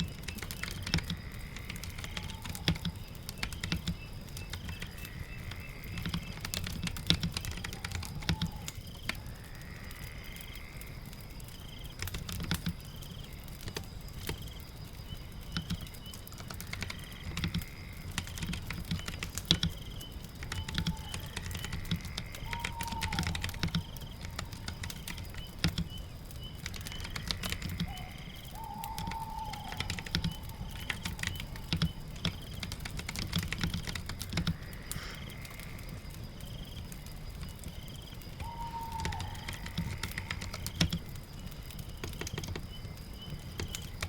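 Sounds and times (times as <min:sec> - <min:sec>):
typing on a keyboard: 0:00.0 - 0:09.3, 0:11.9 - 0:14.6, 0:15.4 - 0:35.6, 0:38.4 - 0:44.0
rain patter: 0:00.0 - 0:44.0.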